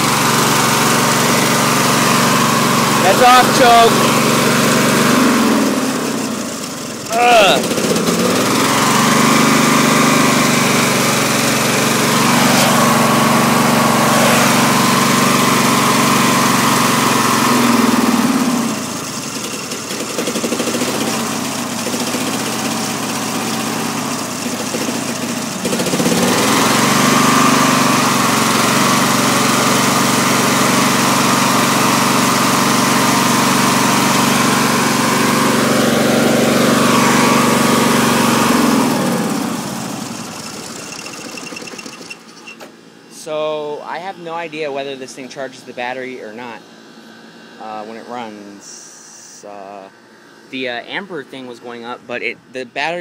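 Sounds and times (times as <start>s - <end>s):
lawn tractor engine running: 0.0s - 44.0s.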